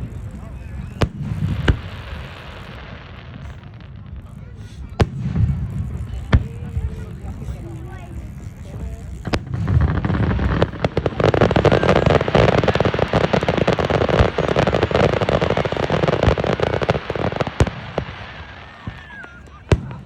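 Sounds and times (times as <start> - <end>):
firework bang: 0.0 - 20.0
fireworks crackling: 0.0 - 20.0.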